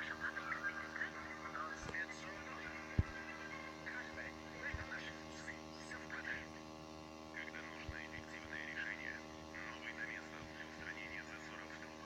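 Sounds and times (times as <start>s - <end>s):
faint indistinct voices: 0.0s - 12.0s
steady electrical hum: 0.0s - 12.0s.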